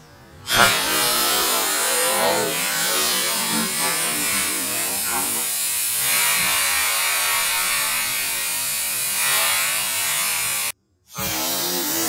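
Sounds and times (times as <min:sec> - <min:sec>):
gas cartridge hissing: 0:00.5 - 0:10.7.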